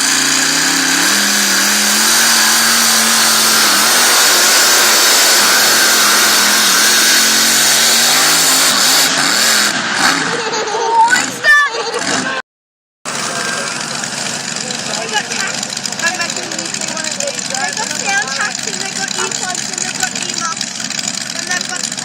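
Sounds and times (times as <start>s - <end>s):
engine running at high revs: 0.0s - 12.4s, 13.1s - 22.0s.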